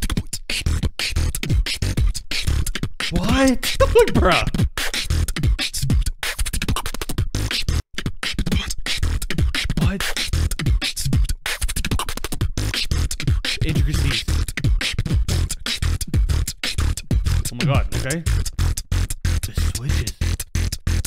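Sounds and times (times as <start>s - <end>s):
beatboxing: 0.0s - 21.0s.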